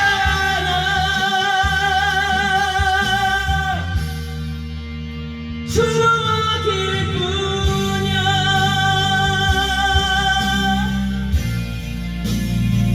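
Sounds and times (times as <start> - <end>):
rock band playing: 0.0 - 12.9.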